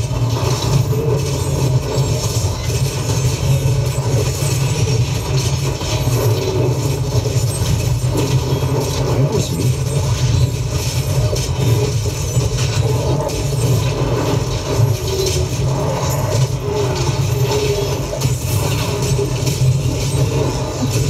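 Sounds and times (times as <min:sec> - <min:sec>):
heavy low rumble: 0:00.0 - 0:21.0.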